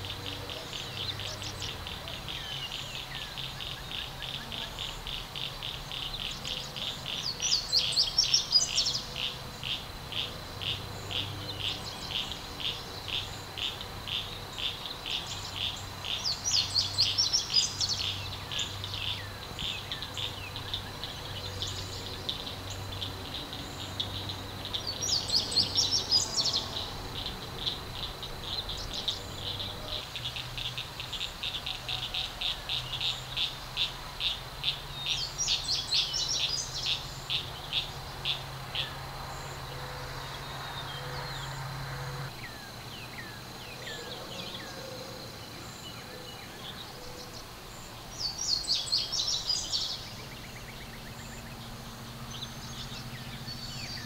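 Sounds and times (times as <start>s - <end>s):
insect chirping: 0.0s - 54.0s
songbird singing: 0.0s - 54.0s.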